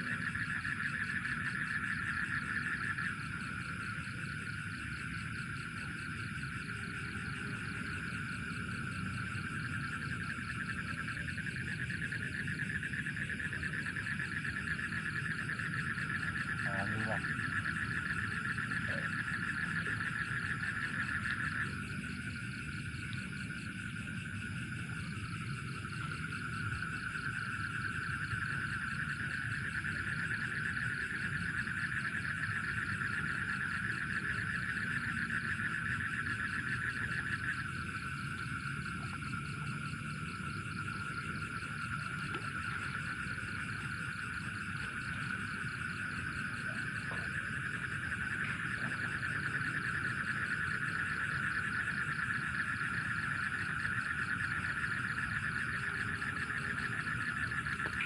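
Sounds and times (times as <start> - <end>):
frogs and insects trilling: 0.0 - 58.0.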